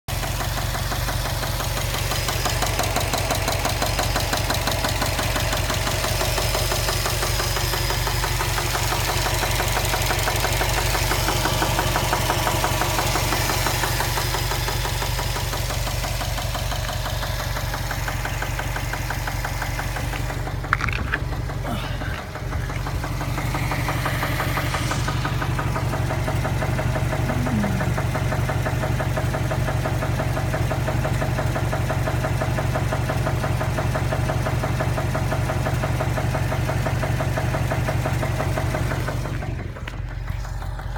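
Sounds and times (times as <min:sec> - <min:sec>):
car engine running with knock: 0:00.1 - 0:40.9.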